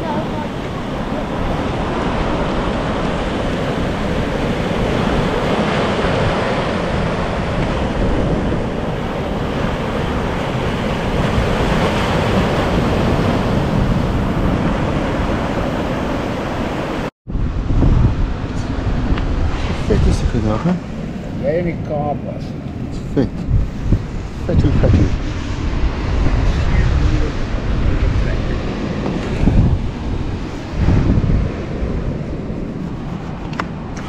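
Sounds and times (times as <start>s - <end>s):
ocean surf: 0.0s - 34.0s
wind buffeting microphone: 0.0s - 34.0s.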